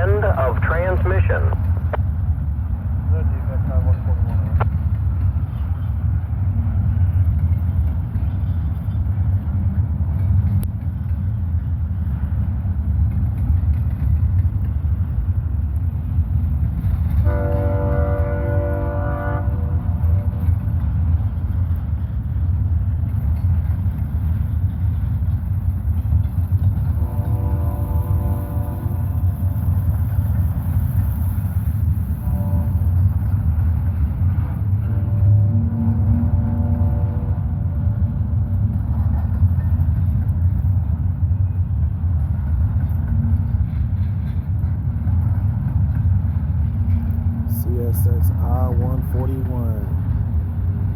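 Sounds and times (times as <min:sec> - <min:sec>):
diesel locomotives rumbling: 0:00.0 - 0:50.9.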